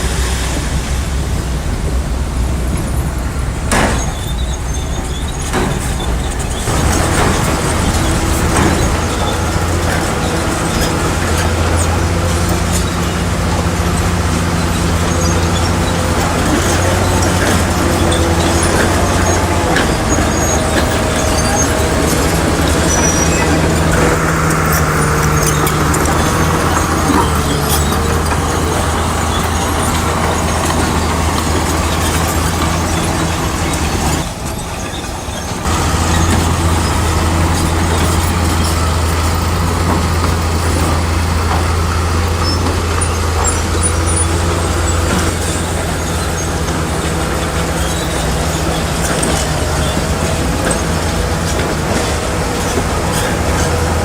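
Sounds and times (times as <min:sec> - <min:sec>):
bulldozer diesel engine humming: 0:00.0 - 0:54.0.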